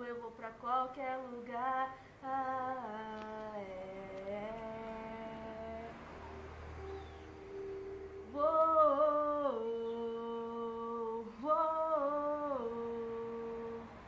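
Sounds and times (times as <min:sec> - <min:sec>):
woman humming: 0:02.4 - 0:14.0.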